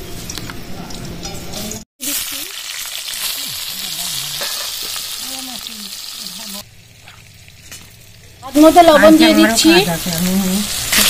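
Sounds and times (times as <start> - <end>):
potato wedges sizzling in hot oil: 2.0 - 11.0.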